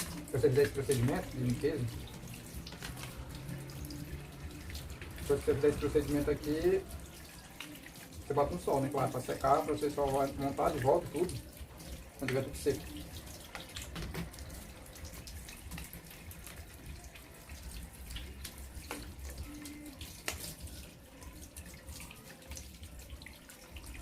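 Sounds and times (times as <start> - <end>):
tap water running and splashing: 0.0 - 24.0.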